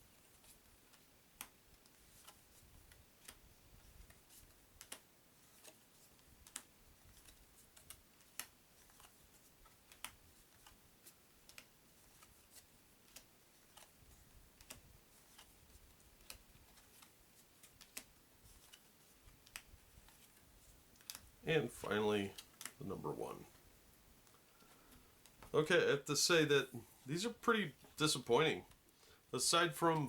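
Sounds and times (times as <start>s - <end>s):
playing cards laid on a table: 0.1s - 30.0s.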